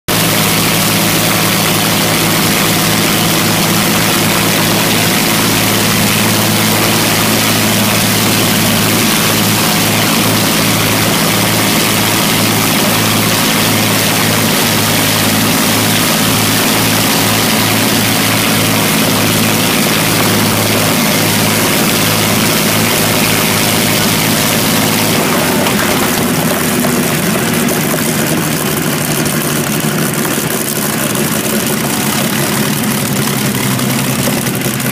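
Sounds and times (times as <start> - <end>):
piston aircraft engines running: 0.0 - 34.9.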